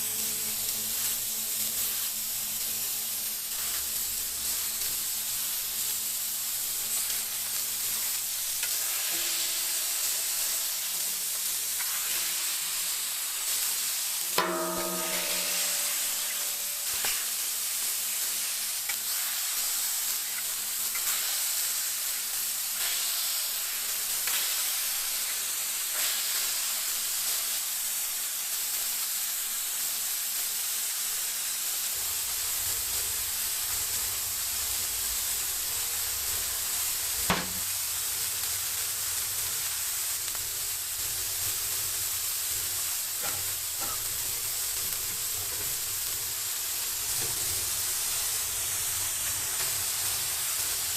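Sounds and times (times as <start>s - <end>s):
food sizzling: 0.0s - 50.9s.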